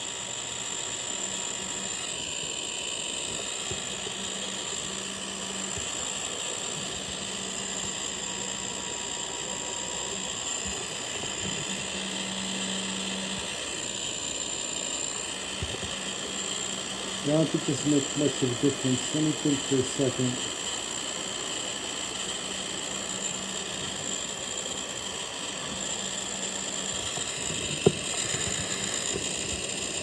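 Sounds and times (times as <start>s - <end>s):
heat gun fan motor hum: 0.0s - 30.0s.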